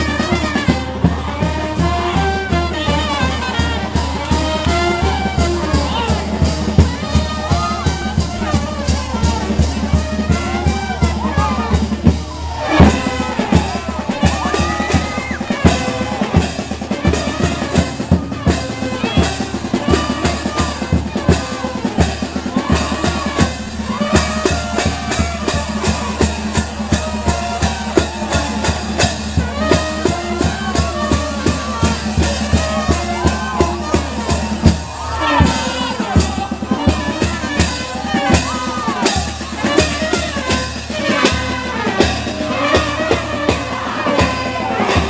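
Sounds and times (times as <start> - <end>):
fast drum beat: 0.0 - 45.0
lively band music: 0.0 - 45.0.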